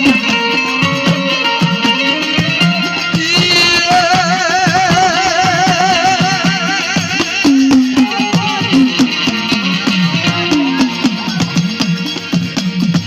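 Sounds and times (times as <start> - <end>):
percussion beat: 0.0 - 13.0
plucked banjo melody: 0.0 - 13.0.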